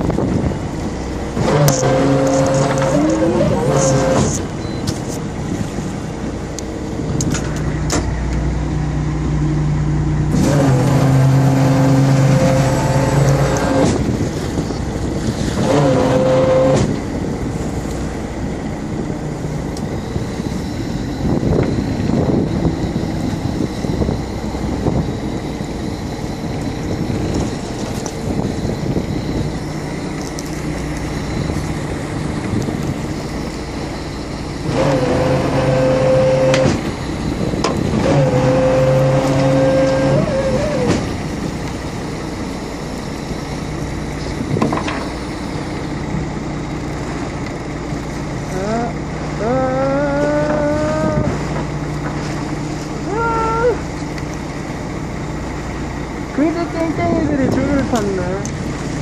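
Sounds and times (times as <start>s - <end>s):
boat engine humming: 0.0s - 59.0s
high steady whine: 0.0s - 59.0s.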